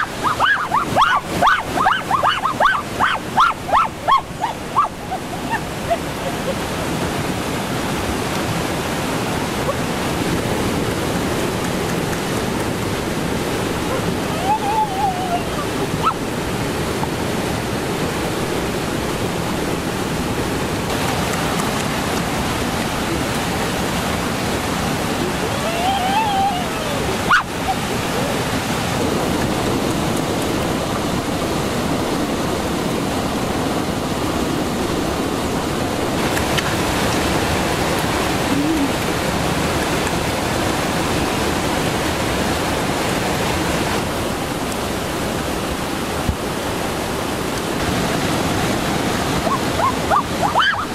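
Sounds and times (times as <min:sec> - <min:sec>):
stream water over rocks: 0:00.0 - 0:50.9.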